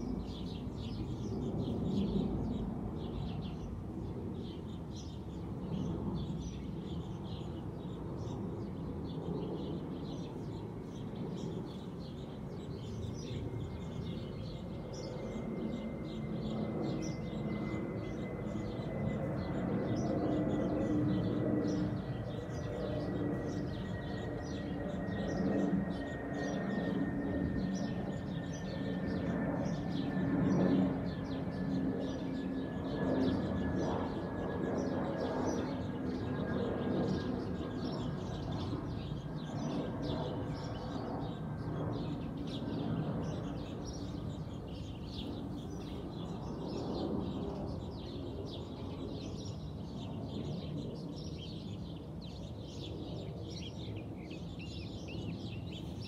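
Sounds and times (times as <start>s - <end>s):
airplane overhead: 0.0s - 56.0s
small birds chirping: 0.0s - 56.0s.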